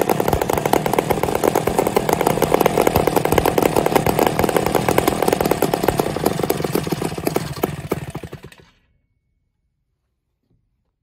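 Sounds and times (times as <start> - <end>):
two-stroke kart engines buzzing: 0.0 - 8.9.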